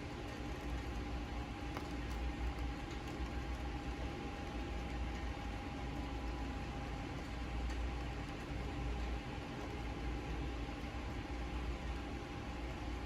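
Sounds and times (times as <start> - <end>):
low hum and rumble: 0.0 - 13.0
rain on a window: 0.0 - 13.0.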